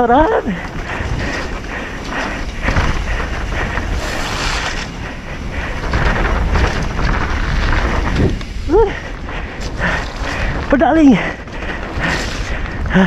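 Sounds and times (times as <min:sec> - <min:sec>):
bike rattling over ground: 0:00.0 - 0:13.0
wind rushing over microphone: 0:00.0 - 0:13.0.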